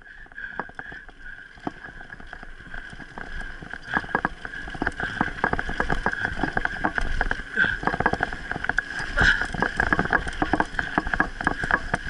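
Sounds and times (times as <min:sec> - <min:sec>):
bike frame and chain rattling: 0:00.0 - 0:12.0
bike tyres on dirt: 0:00.0 - 0:12.0.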